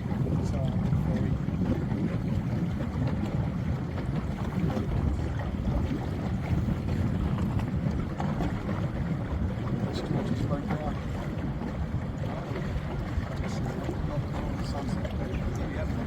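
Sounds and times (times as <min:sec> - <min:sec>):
boat engine rumble: 0:00.0 - 0:16.0
wind buffeting microphone: 0:00.0 - 0:16.0.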